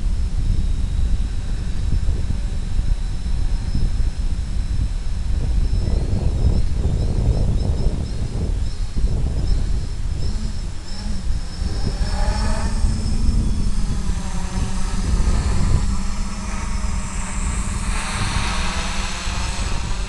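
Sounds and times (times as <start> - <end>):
drone motors buzzing: 0.0 - 20.0.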